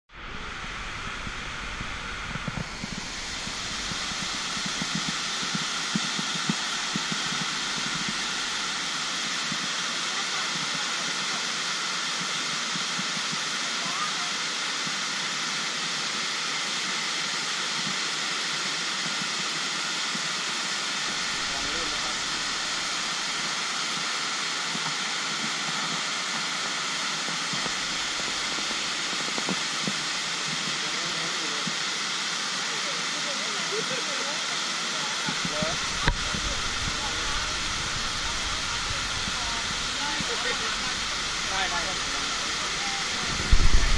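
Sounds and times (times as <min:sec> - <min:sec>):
waterfall hiss: 0:00.1 - 0:43.9.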